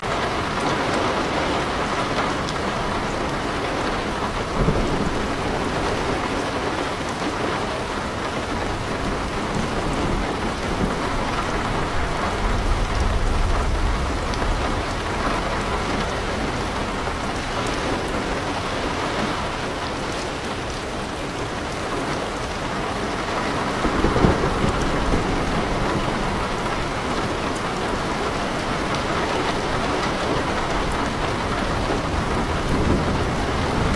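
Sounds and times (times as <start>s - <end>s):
heavy rain on leaves: 0.0s - 33.9s.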